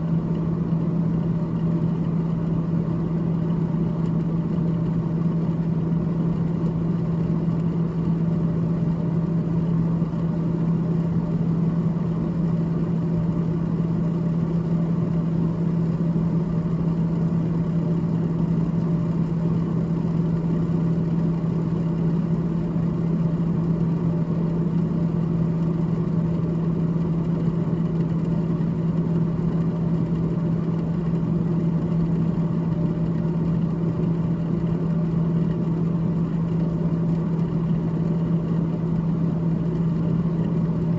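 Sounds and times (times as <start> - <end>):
freezer fan humming: 0.0 - 40.9.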